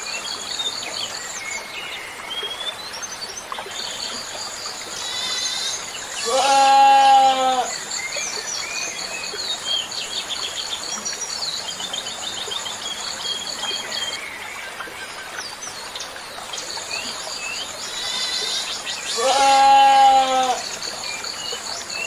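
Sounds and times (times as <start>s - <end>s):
constant hiss: 0.0s - 22.0s.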